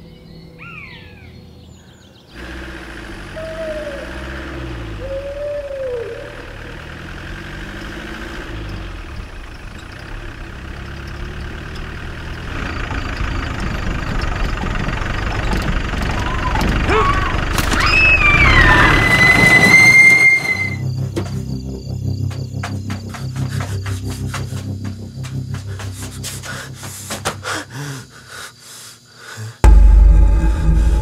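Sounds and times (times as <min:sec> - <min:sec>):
vehicle engine driving: 0:02.3 - 0:27.4.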